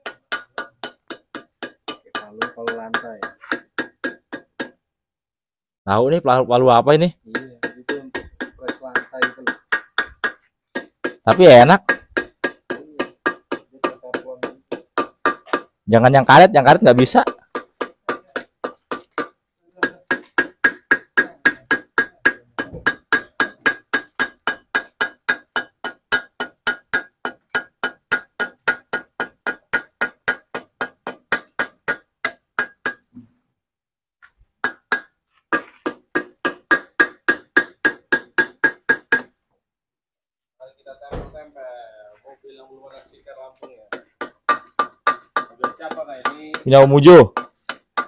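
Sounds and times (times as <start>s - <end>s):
hammer tapping on metal: 0.0s - 4.8s, 7.3s - 15.8s, 16.7s - 33.1s, 34.6s - 39.3s, 43.6s - 48.0s.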